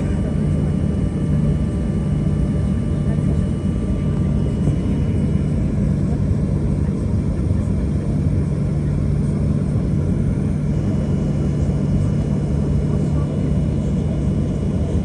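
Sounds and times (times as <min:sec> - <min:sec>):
jet engine and airflow rumble: 0:00.0 - 0:15.0.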